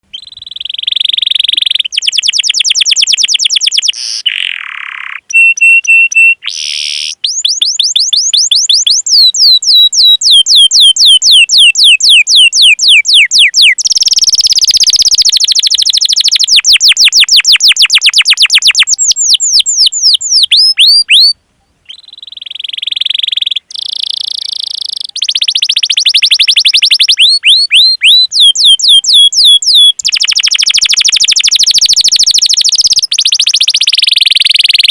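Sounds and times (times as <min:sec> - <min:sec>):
canary singing chirps and trills: 0:00.0 - 0:34.9.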